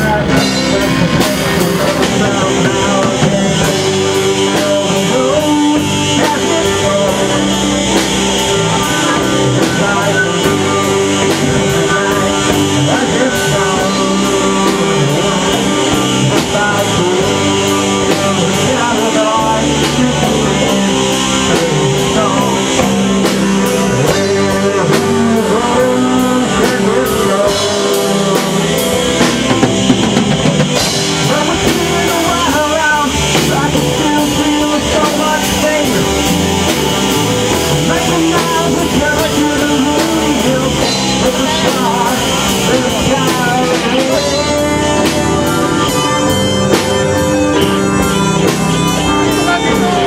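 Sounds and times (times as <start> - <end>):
drum kit beat: 0.0 - 50.0
loud rock music: 0.0 - 50.0.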